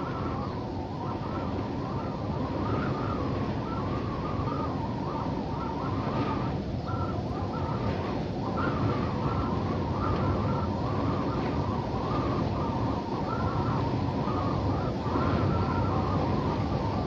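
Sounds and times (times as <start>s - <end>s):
wind gusting: 0.0s - 17.0s.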